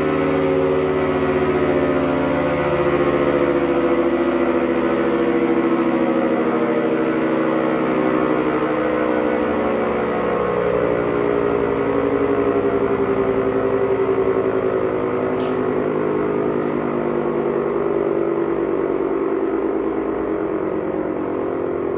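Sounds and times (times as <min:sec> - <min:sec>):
air raid siren wailing: 0:00.0 - 0:21.9.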